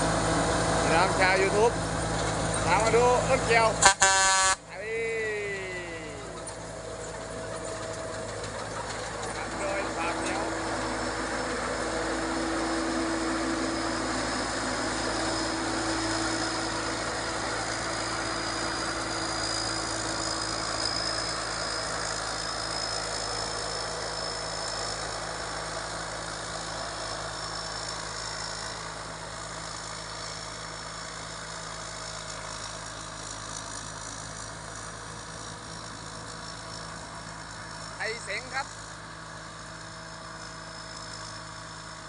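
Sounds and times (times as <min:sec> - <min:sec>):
combine harvester engine running: 0:00.0 - 0:42.0.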